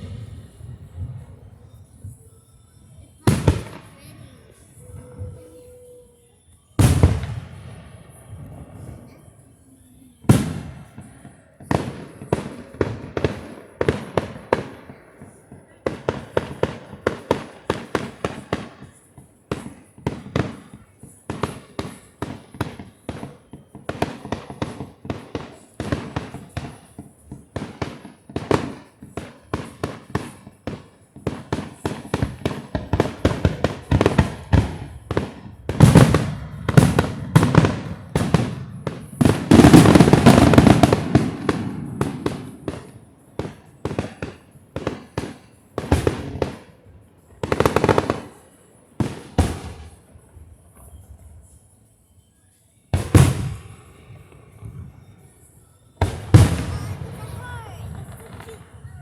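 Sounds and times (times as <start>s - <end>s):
fireworks bangs: 0.0s - 5.8s, 6.6s - 51.5s, 52.9s - 59.0s.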